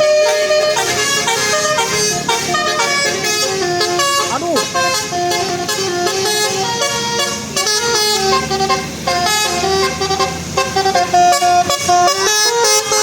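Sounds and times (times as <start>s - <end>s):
musical air horn playing a tune: 0.0s - 13.0s.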